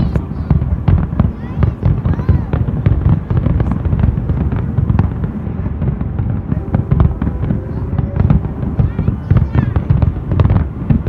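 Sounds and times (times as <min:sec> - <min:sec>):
fireworks bursts and crackles: 0:00.0 - 0:11.0.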